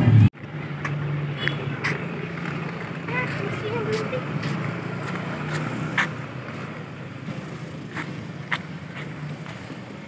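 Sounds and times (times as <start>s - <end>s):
distant road traffic hum: 0.0s - 10.0s.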